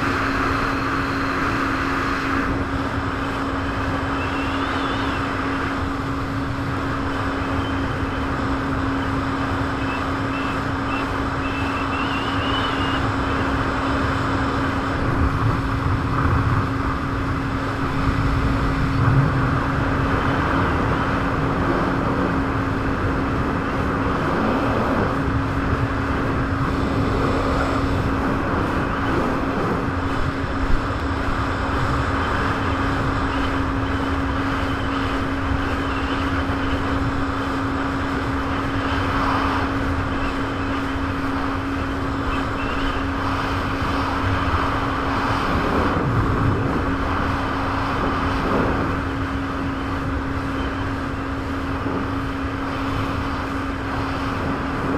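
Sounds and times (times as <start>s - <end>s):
jet ski engine running: 0.0s - 54.9s.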